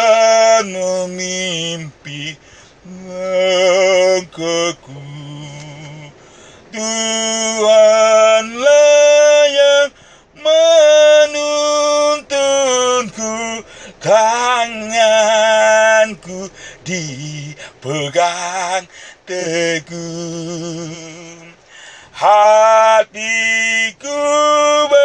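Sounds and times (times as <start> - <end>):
man singing unaccompanied: 0.0 - 25.0.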